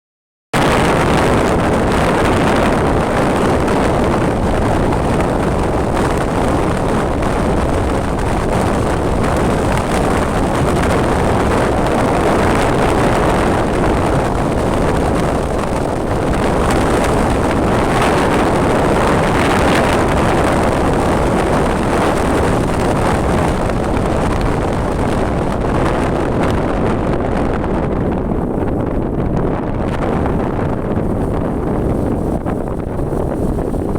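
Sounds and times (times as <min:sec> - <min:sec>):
wind rushing on microphone: 0:00.6 - 0:33.9.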